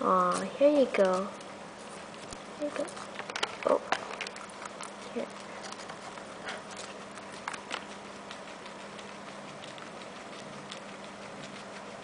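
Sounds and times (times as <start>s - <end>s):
guinea pigs chewing carrot: 0.0s - 12.0s.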